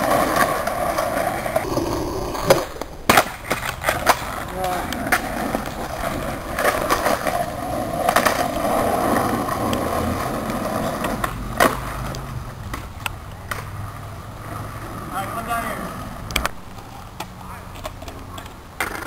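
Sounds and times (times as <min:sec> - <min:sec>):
skateboard clacking on pavement: 0:00.0 - 0:19.0
skateboard wheels rolling on asphalt: 0:00.0 - 0:19.0.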